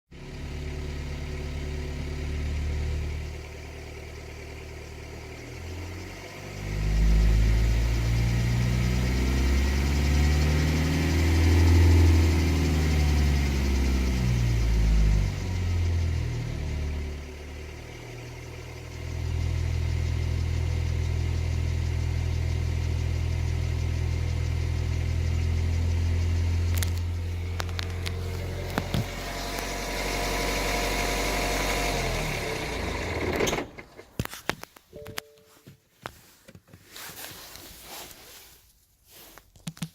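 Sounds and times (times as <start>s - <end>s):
diesel engine idling and revving: 0.1s - 34.1s.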